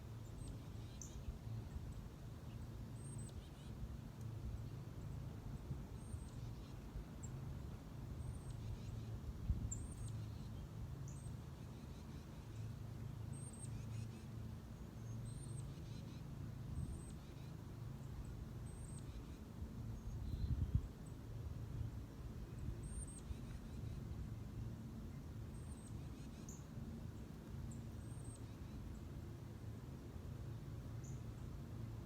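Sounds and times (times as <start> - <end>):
small birds chirping: 0.1 - 21.2, 21.8 - 29.1, 30.9 - 31.5.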